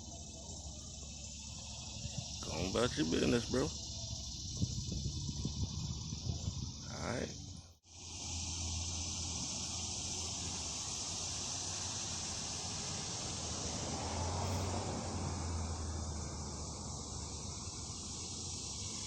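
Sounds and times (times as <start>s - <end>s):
insects chirping chorus: 0.0s - 19.0s.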